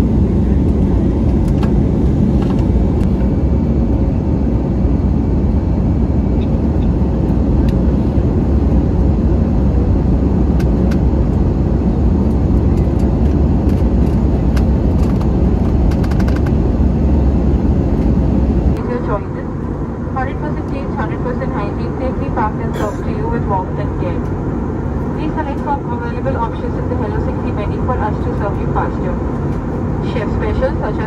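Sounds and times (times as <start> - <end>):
airliner cabin engine drone: 0.0 - 31.0.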